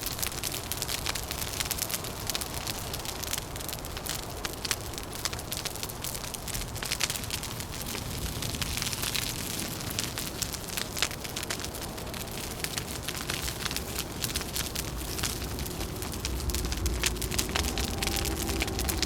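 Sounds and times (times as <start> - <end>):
low rush of wind: 0.0 - 19.0
wood fire crackling and popping: 0.0 - 19.0.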